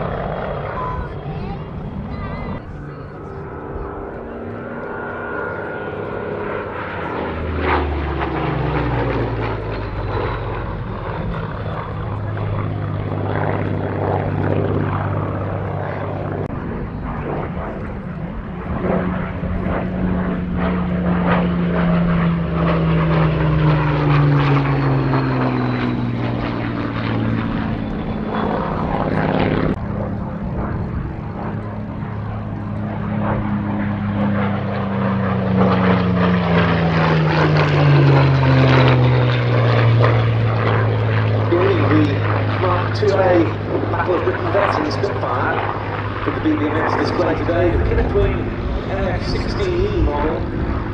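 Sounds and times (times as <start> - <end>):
aircraft engines passing: 0.0 - 50.9.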